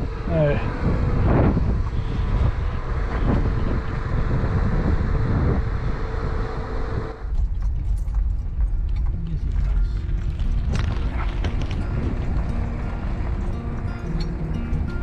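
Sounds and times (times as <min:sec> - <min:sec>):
steady hum: 0:00.0 - 0:15.0
van engine rumble in cabin: 0:00.0 - 0:15.0
wind buffeting microphone: 0:00.0 - 0:15.0.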